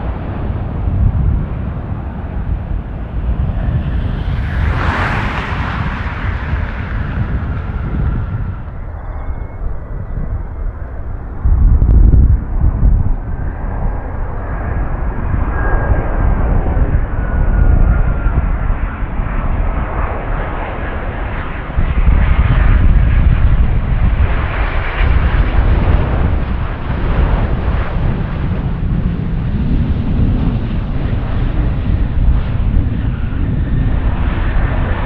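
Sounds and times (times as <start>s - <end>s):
jet airliner flying overhead: 0.0s - 35.0s.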